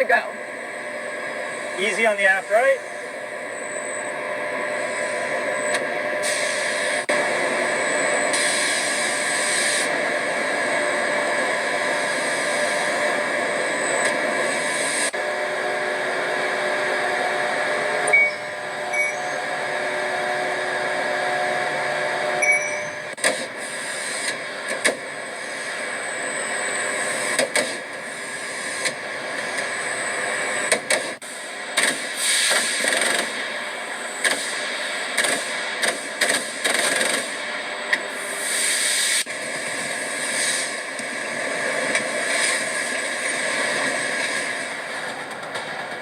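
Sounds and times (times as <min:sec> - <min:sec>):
machinery humming: 0:00.0 - 0:46.0.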